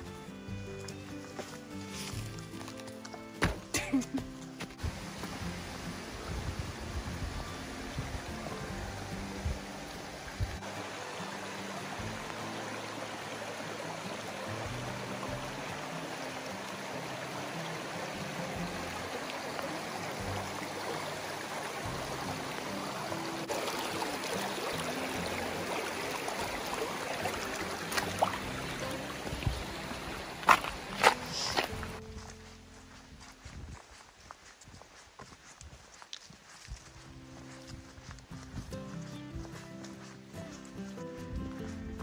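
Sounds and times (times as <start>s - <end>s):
soft background music: 0.0s - 33.7s, 36.7s - 42.0s
stream running over rocks: 0.0s - 42.0s
footsteps on stones: 0.2s - 6.5s, 9.3s - 42.0s.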